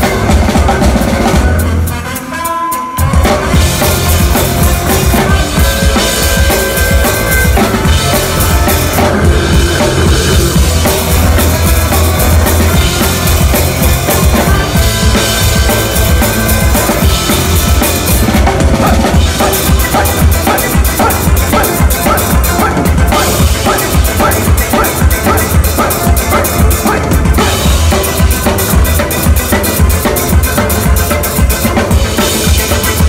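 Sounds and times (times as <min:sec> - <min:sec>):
drum kit played hard: 0:00.0 - 0:33.0
low held notes: 0:03.0 - 0:31.1.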